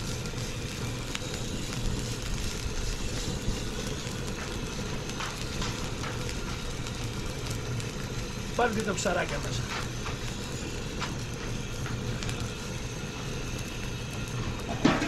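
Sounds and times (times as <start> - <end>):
faint crackles: 0.0 - 15.0.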